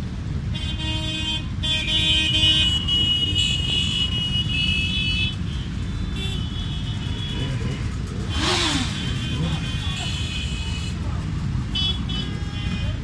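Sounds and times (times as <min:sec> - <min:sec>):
motorcycle engines rumbling: 0:00.0 - 0:13.0
horn blasts: 0:00.5 - 0:11.0.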